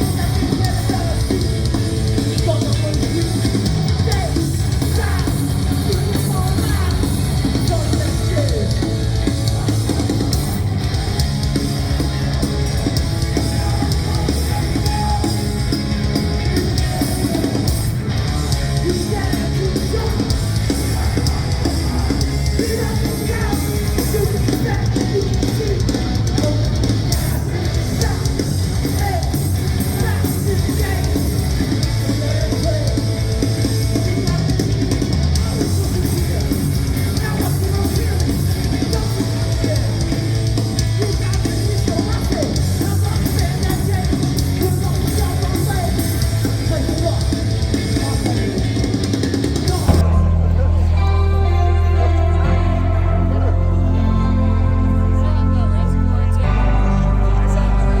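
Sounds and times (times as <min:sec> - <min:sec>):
vocals: 0:00.0 - 0:10.9, 0:11.5 - 0:58.0
heavy metal band playing live: 0:00.0 - 0:58.0.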